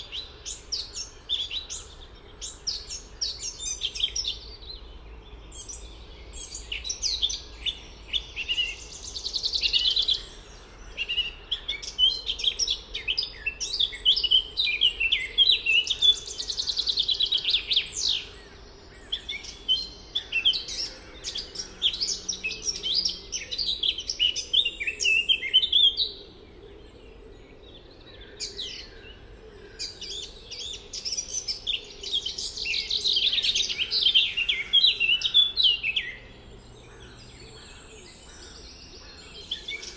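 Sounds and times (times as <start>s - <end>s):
songbirds singing with trills: 0.0s - 39.9s.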